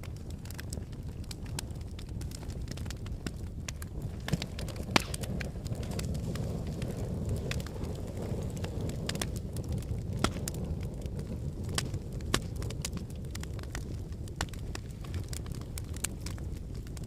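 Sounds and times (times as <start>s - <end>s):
logs crackling and popping: 0.0s - 17.0s
low rush of flame: 0.0s - 17.0s.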